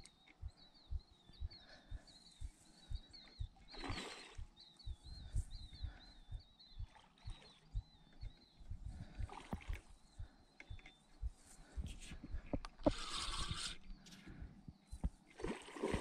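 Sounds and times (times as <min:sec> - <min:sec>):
high chirping calls: 0:00.0 - 0:15.1.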